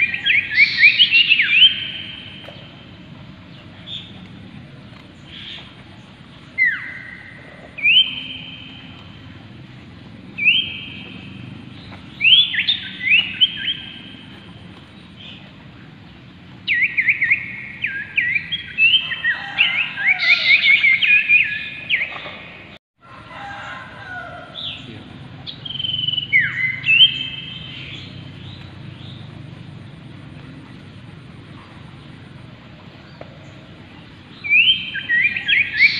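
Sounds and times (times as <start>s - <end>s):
birds chattering rapidly: 0.0s - 22.8s, 24.4s - 35.9s
birds whistling: 0.0s - 22.8s, 24.4s - 30.0s, 31.5s - 35.9s.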